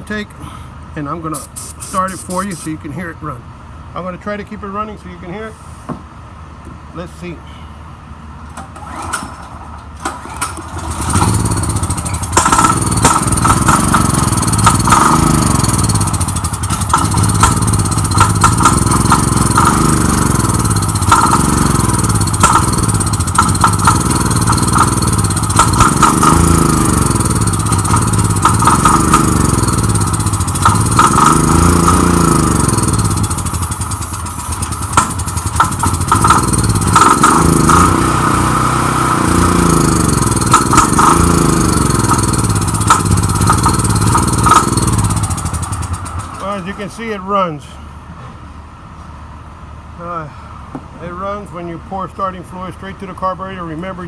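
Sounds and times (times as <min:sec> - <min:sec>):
generator engine running unevenly: 0:00.0 - 0:04.5, 0:08.6 - 0:47.8.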